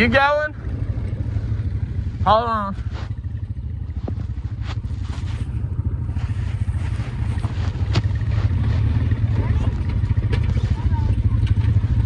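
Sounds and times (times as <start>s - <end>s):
quad bike engine at low revs: 0.0s - 12.0s.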